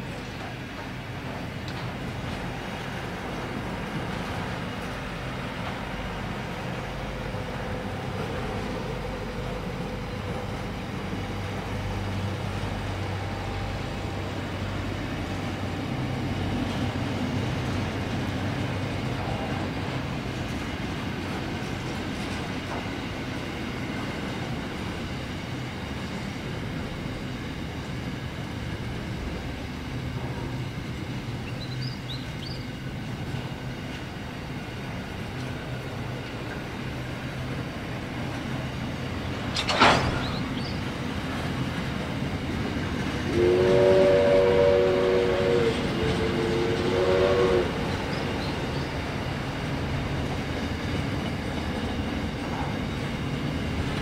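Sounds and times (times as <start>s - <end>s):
freight wagons rumbling on rails: 0.0s - 54.0s.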